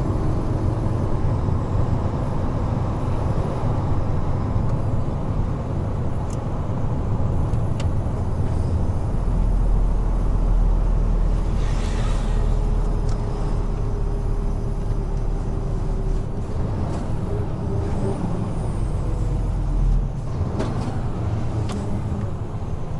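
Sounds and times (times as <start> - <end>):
truck engine and road rumble: 0.0 - 22.9.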